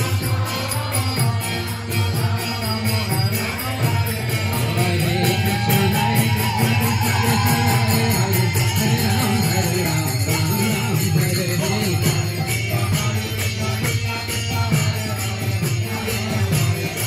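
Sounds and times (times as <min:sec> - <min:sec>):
devotional chanting music: 0:00.0 - 0:17.0
hand cymbals jingling: 0:00.0 - 0:17.0.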